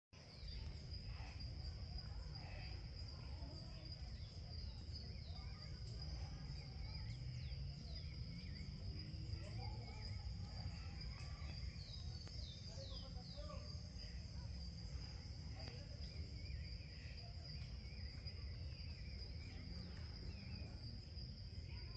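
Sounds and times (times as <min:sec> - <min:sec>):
birds chirping and warbling: 0:00.2 - 0:21.9
insects trilling: 0:00.2 - 0:21.9.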